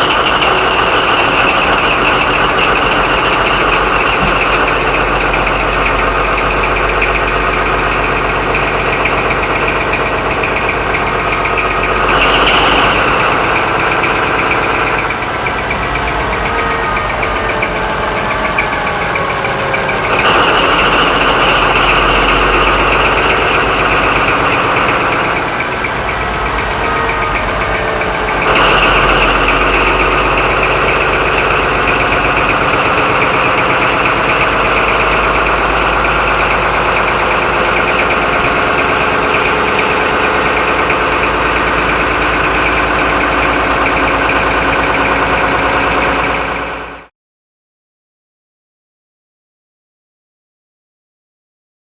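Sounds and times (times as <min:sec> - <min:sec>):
diesel engine running: 0:00.0 - 0:47.1.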